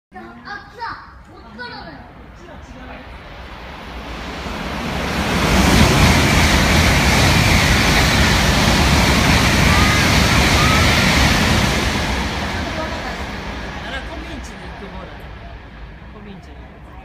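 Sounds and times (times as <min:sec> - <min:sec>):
high-speed train passing: 0:00.2 - 0:17.0.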